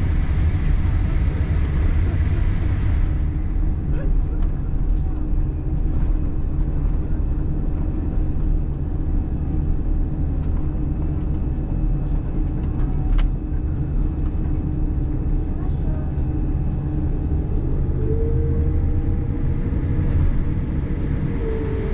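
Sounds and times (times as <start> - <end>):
airplane cabin drone: 0.0 - 21.9.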